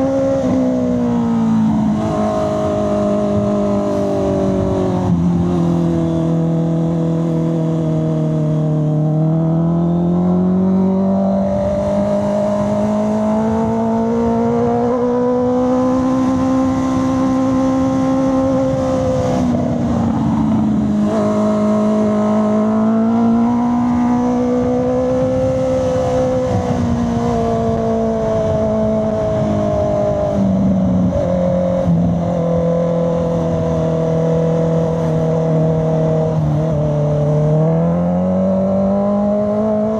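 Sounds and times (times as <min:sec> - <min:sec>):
motorcycle engine and exhaust: 0:00.0 - 0:39.9
road and wind noise: 0:00.0 - 0:39.9.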